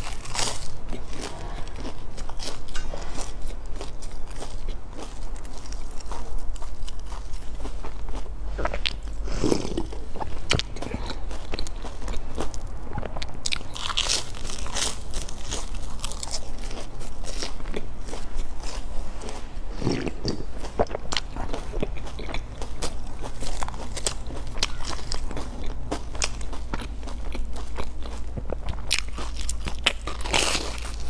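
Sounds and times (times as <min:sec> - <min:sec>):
chewing and crunching fried buns: 0:00.0 - 0:31.0
low hum: 0:00.0 - 0:31.0.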